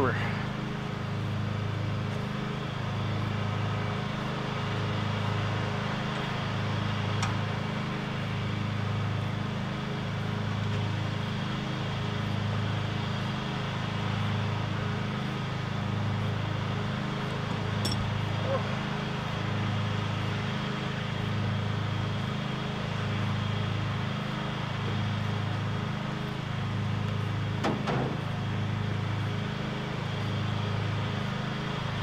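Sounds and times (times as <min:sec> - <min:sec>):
petrol engine running: 0:00.0 - 0:32.0.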